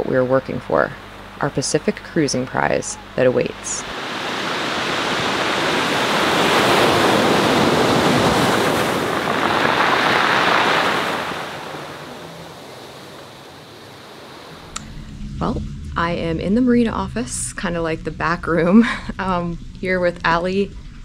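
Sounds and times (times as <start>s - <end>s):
ocean waves breaking: 0.0s - 20.5s.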